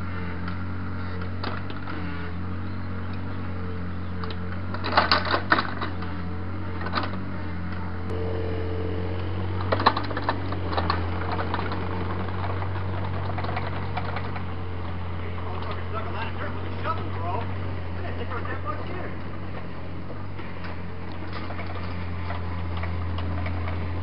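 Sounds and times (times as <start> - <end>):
excavator diesel engine running: 0.0 - 24.0
rattling clicks of soil and stones: 0.4 - 2.3, 4.1 - 7.9, 9.5 - 24.0.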